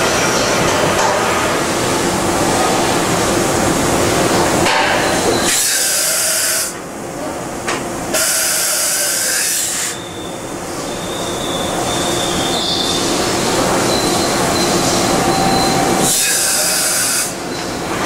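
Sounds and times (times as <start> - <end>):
machine rumble and whine: 0.0 - 18.0.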